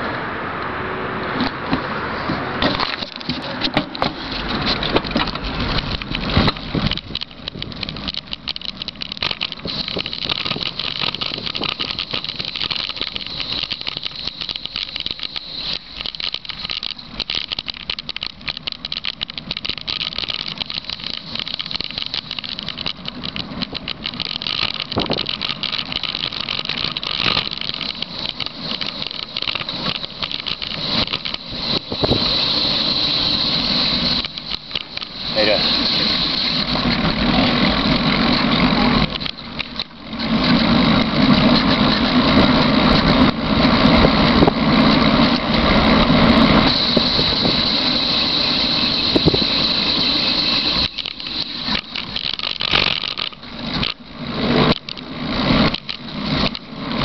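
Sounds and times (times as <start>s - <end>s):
wind and road noise: 0.0s - 57.0s
bike rattling clicks: 2.6s - 57.0s.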